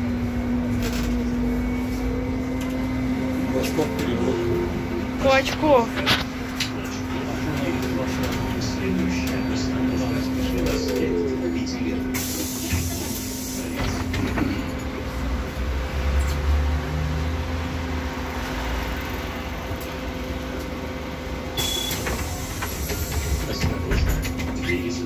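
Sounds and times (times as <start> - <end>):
low road rumble: 0.0 - 25.0.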